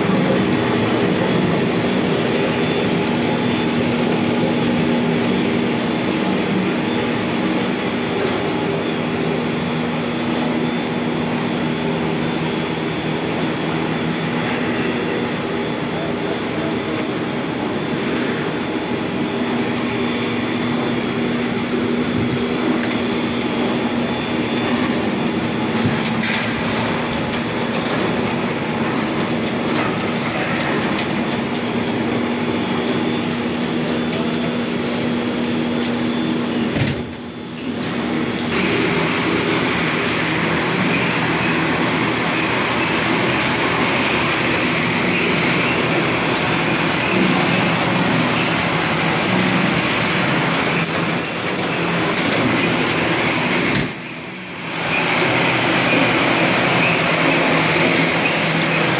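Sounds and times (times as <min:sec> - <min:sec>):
factory machinery drone: 0:00.0 - 0:58.9.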